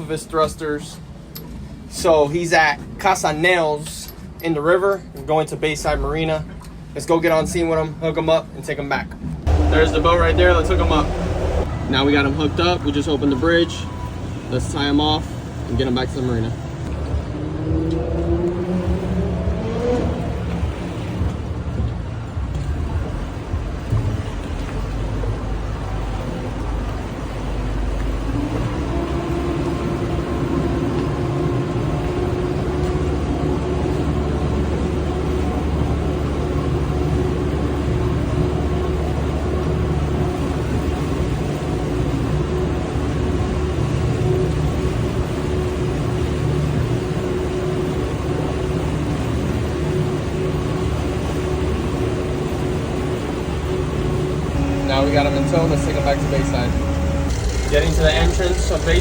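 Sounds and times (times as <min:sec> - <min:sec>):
boat engine drone: 0:09.4 - 0:59.0.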